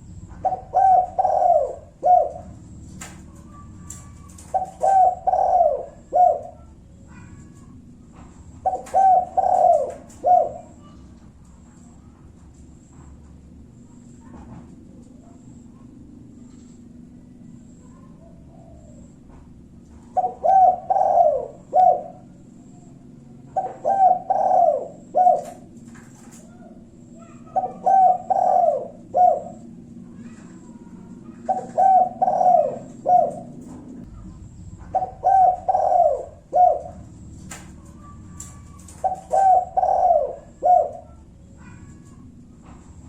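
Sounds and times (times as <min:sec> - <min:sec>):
dove cooing: 0:00.0 - 0:43.0
steady low hum: 0:00.0 - 0:43.0.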